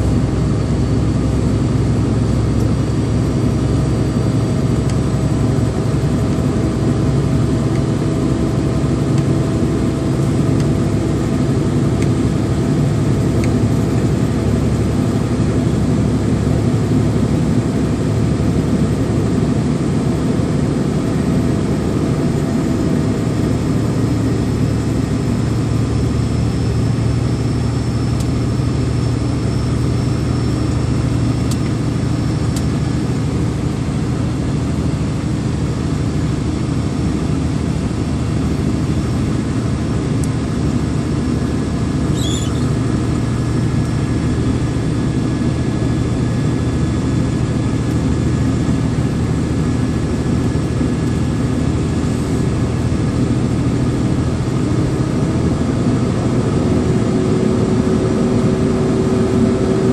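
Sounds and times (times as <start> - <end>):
road noise: 0.0 - 59.9
vehicle engine running under load: 0.0 - 59.9.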